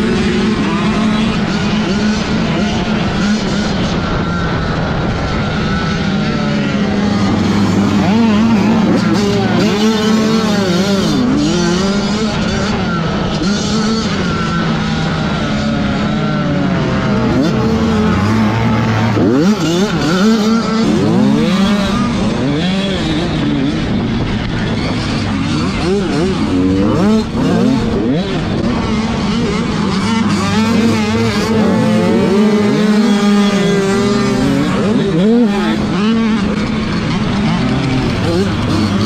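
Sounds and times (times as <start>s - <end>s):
motocross bike engine revving: 0.0s - 39.0s
other motorbike engines nearby: 0.0s - 39.0s.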